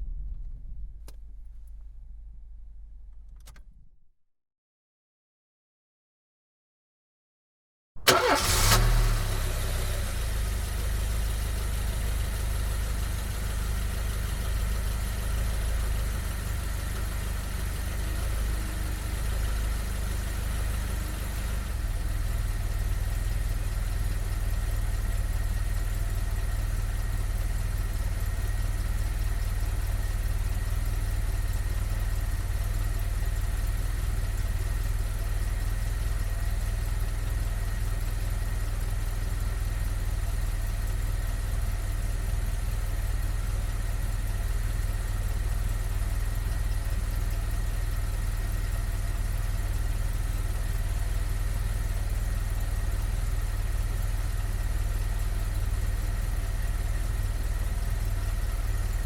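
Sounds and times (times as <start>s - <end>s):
car engine idling: 0.0s - 3.9s, 8.0s - 59.0s.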